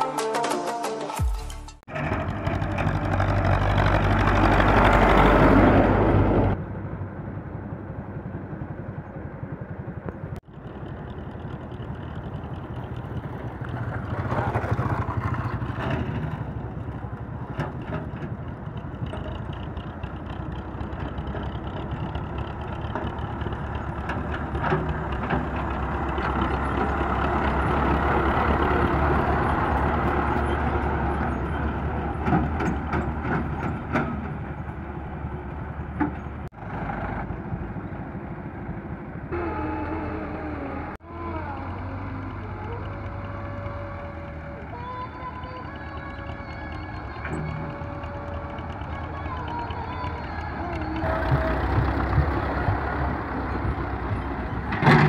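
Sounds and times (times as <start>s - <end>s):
tractor diesel engine under load: 1.2s - 55.0s.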